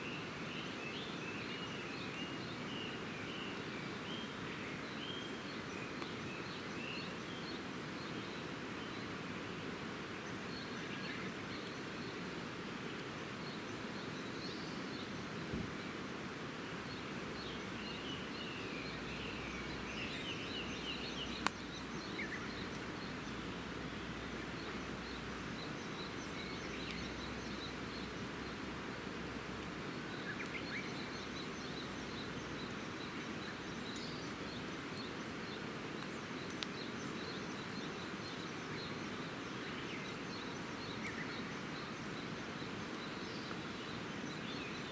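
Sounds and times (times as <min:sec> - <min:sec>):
campfire hiss: 0:00.0 - 0:44.9.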